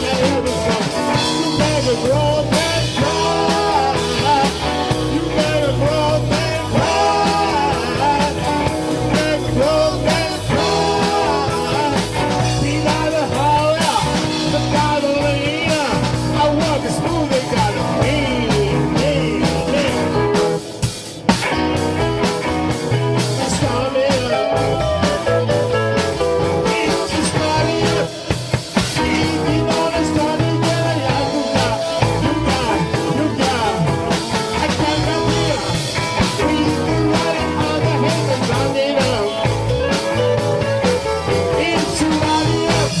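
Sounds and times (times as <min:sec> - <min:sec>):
drum beat: 0:00.0 - 0:43.0
electric guitars: 0:00.0 - 0:43.0.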